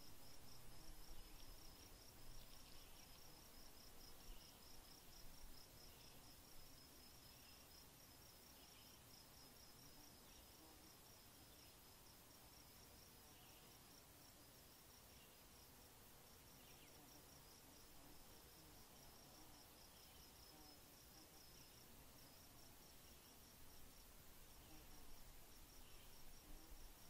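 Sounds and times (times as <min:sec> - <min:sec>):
insects chirping: 0:00.0 - 0:27.0
soft hiss: 0:00.0 - 0:27.0.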